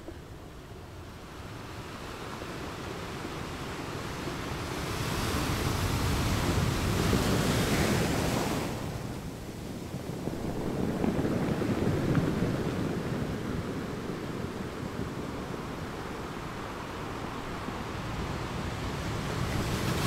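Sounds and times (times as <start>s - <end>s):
ocean waves washing: 0.0s - 20.0s.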